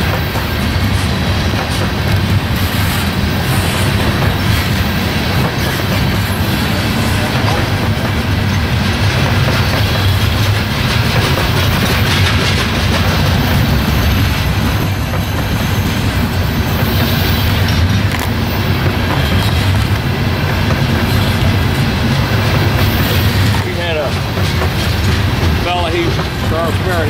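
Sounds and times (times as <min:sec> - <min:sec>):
freight train wheels rumbling: 0:00.0 - 0:27.0
wheel clacks on rails: 0:00.0 - 0:27.0.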